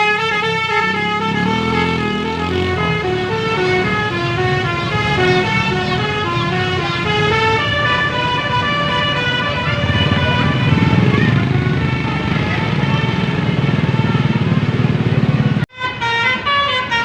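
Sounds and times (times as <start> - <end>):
bus engine rumbling: 0.0 - 17.0
bus musical horn playing tune: 0.0 - 17.0.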